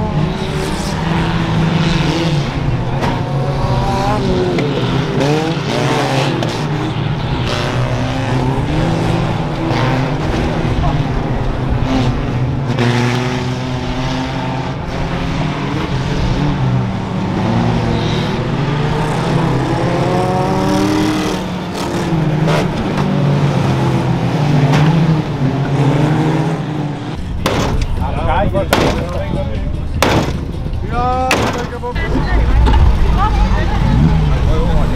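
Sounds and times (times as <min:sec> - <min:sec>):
race car engines revving: 0:00.0 - 0:34.9.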